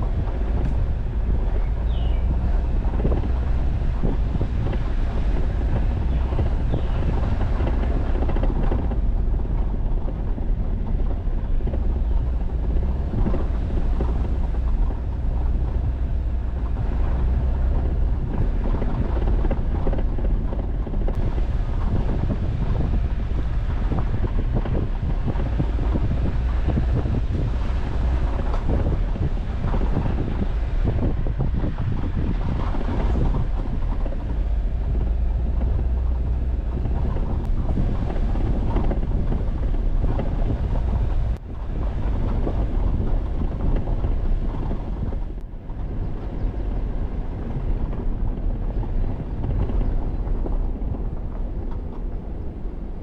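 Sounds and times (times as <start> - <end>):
vehicle engine and tyres rumbling: 0.0 - 53.0.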